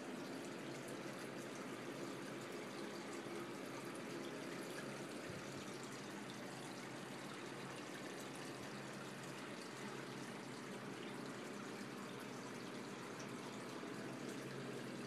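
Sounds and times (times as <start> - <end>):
aquarium water circulating: 0.0 - 15.0
low steady hum: 0.0 - 15.0.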